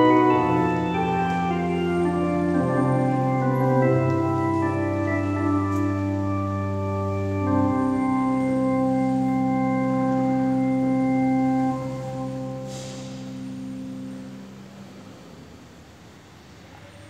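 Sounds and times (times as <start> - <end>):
electronic organ chords: 0.0 - 15.3.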